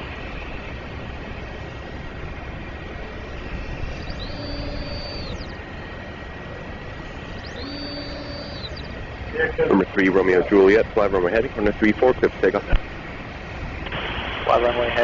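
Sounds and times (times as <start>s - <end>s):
distant jet engines rumbling: 0.0s - 15.0s.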